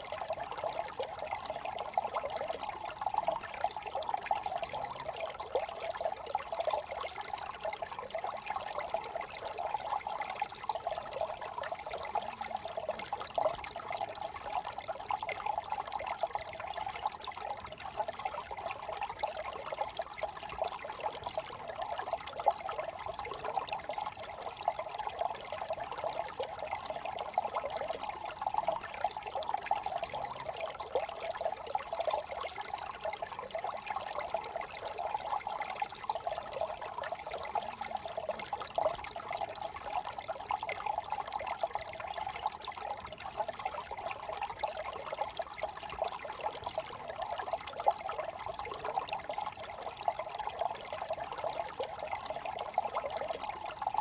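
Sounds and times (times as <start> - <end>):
brook trickling over stones: 0.0 - 54.0.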